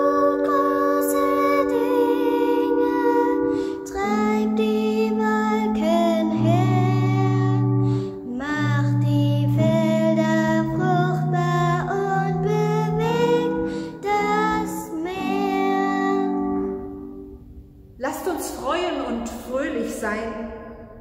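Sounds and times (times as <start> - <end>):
girl singing church song: 0.0 - 17.4
held instrumental chords: 0.0 - 21.0.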